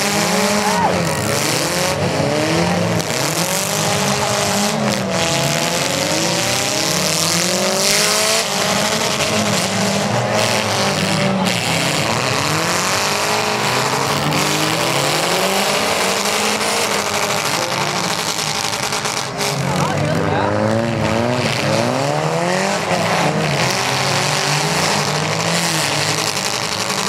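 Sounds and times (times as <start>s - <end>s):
car engines revving: 0.0s - 27.0s
running and tyre noise: 0.0s - 27.0s.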